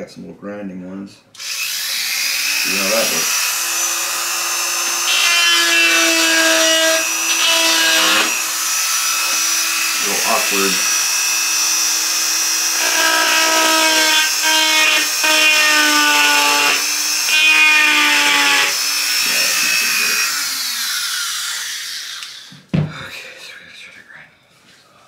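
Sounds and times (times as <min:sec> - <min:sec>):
rotary tool whining: 0:01.4 - 0:22.6.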